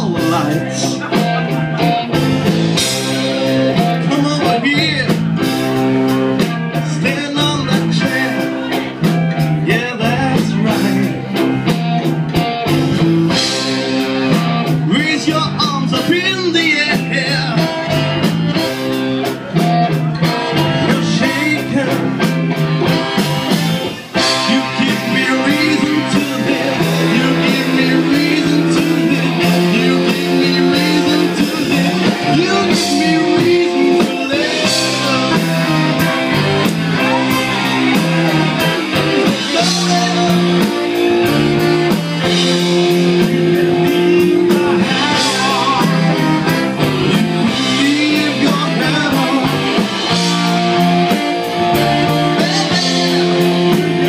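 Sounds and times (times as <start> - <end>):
person singing: 0.0 - 2.1, 2.9 - 5.3, 6.3 - 11.5, 13.3 - 18.3, 19.2 - 23.2, 23.9 - 54.0
drums: 0.0 - 54.0
electric guitar: 0.0 - 54.0.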